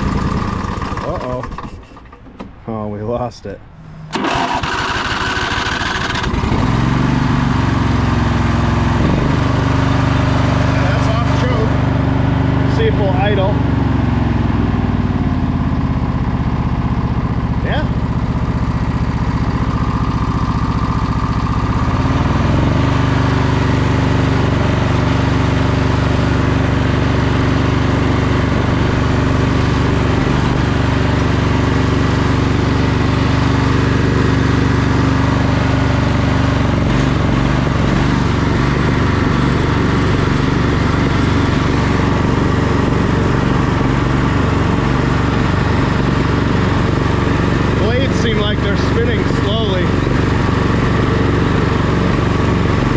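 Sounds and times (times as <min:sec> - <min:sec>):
lawn tractor engine running: 0:00.0 - 0:02.6, 0:03.6 - 0:52.9.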